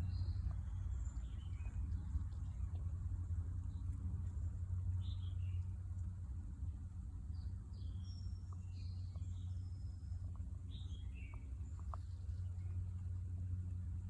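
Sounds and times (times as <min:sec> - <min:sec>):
small birds chirping: 0:00.0 - 0:06.2, 0:07.2 - 0:14.0
steady low rumble: 0:00.0 - 0:14.0.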